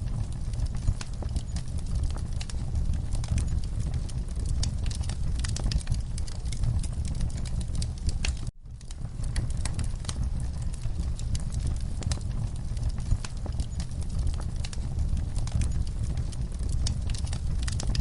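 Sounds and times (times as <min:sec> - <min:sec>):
low steady fire rumble: 0:00.0 - 0:18.0
wood fire crackling and popping: 0:00.0 - 0:18.0.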